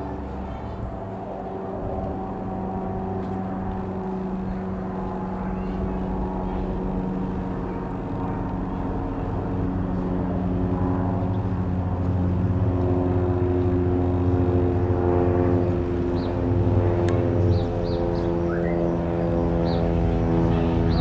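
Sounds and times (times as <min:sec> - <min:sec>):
propeller aircraft droning overhead: 0:00.0 - 0:21.0.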